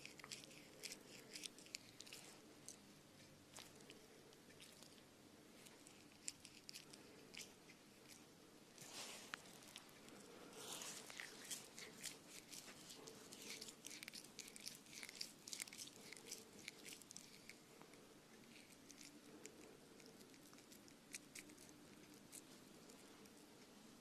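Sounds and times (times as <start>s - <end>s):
faint crisp crunching: 0.0s - 24.0s.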